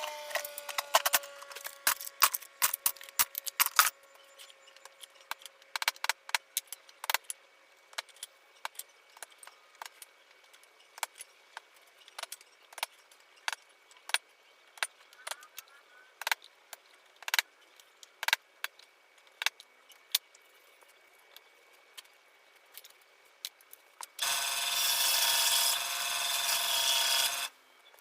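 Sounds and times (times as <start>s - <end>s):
wooden parts clicking and knocking: 0.3s - 24.2s.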